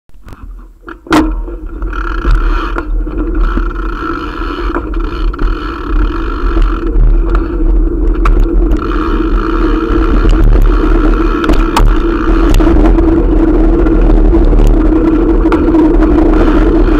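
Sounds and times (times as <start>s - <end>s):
bicycle rolling over concrete: 0.2s - 16.9s.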